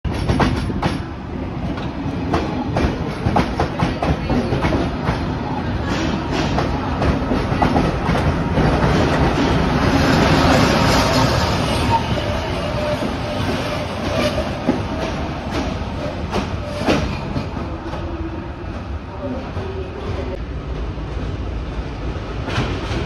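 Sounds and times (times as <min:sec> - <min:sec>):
diesel locomotive: 0:00.1 - 0:23.0.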